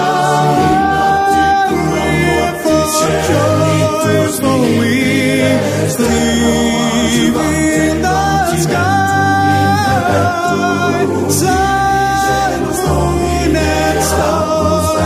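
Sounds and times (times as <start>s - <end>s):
song with sung vocals: 0.0s - 15.0s.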